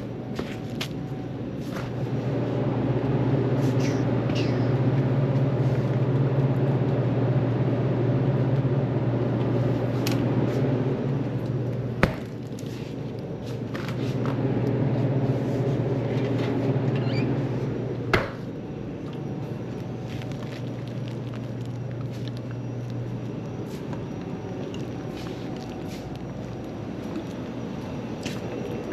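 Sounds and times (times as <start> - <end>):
vehicle engine drone from inside: 0.0 - 28.9.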